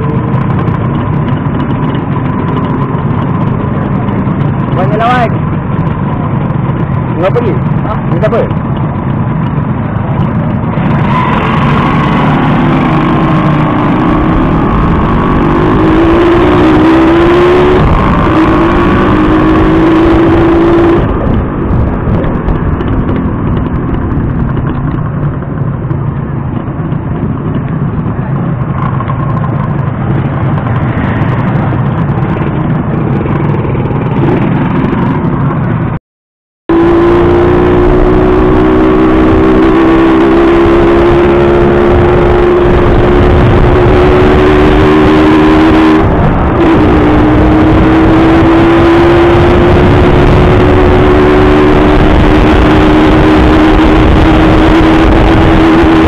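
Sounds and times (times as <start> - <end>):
heavy rushing noise: 0.0 - 36.0, 36.7 - 56.0
motorcycle engine accelerating: 0.0 - 36.0, 36.7 - 56.0.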